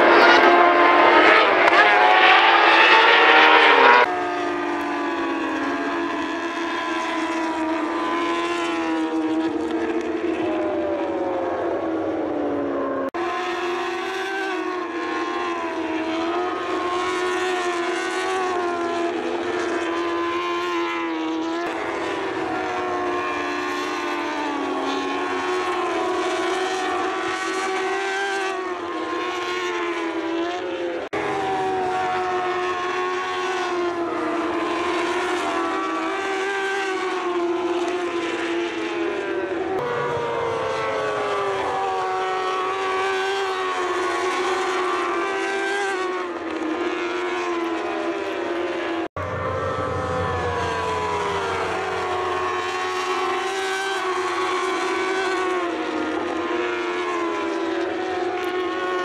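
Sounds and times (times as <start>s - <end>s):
racing motorcycle engines: 0.0s - 59.0s.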